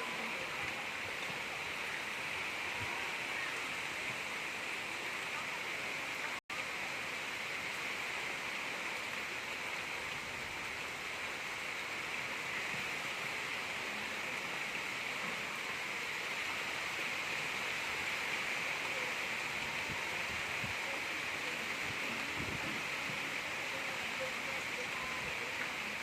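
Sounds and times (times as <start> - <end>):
gentle rain: 0.0 - 26.0.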